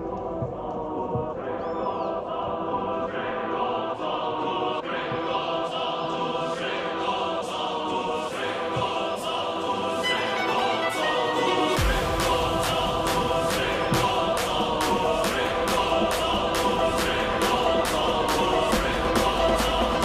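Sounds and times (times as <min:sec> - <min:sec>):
music with choir-like singing: 0:00.0 - 0:20.0.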